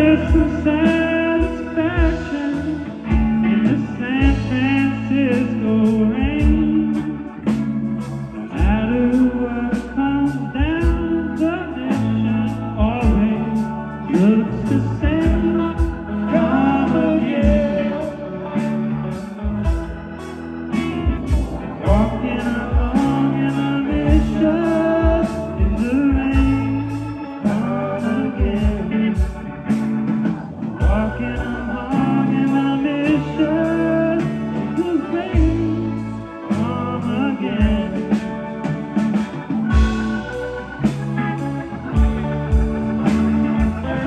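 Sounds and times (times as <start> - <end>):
bass guitar: 0.0 - 44.0
drums: 0.0 - 44.0
electric guitars: 0.0 - 44.0
keyboard: 0.0 - 44.0.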